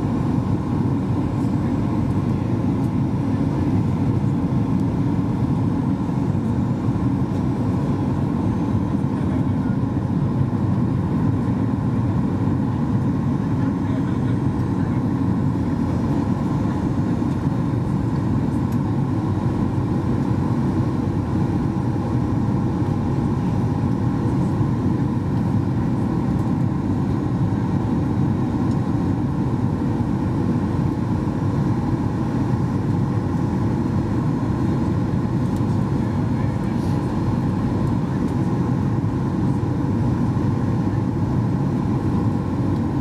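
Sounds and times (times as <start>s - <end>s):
airflow rush in plane cabin: 0.0s - 43.0s
jet engine hum: 0.0s - 43.0s.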